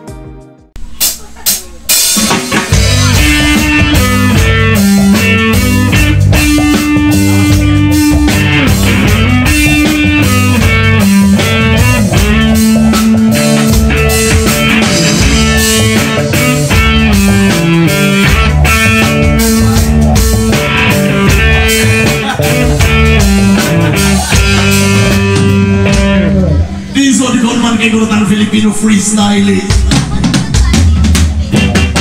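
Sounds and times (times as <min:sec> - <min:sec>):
bass guitar: 0:00.0 - 0:32.0
drum kit beat: 0:00.0 - 0:32.0
electric guitars: 0:01.9 - 0:32.0.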